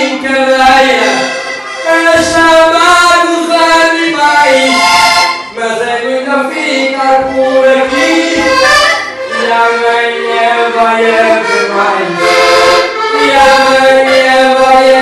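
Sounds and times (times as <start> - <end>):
button accordion melody: 0.0 - 15.0.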